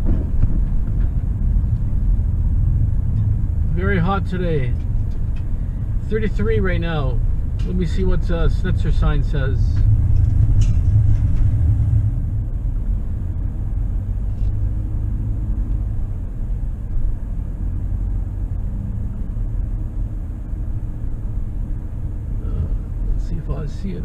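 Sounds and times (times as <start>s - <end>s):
truck engine and tyres rumbling: 0.0s - 24.0s.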